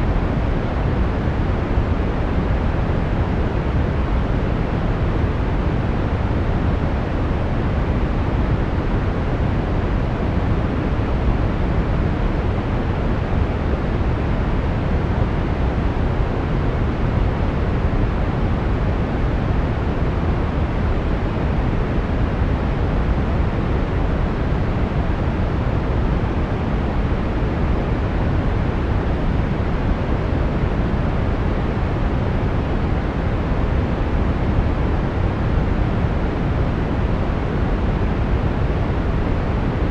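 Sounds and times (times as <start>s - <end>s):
brown noise rumbling hiss: 0.0s - 39.9s.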